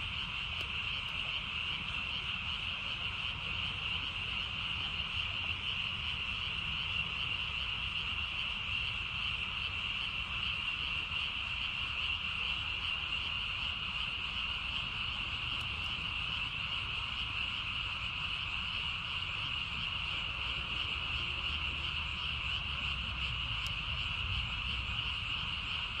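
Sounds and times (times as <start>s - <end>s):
tree frogs chorus: 0.0s - 26.0s.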